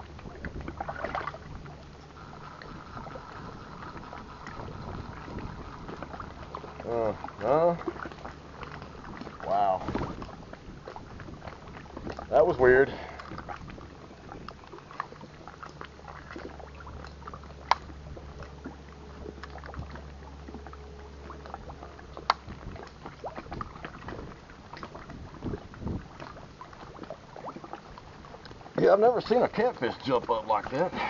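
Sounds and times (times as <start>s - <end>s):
low steady rumble: 0.0s - 31.0s
waves lapping on rocky shore: 0.0s - 31.0s.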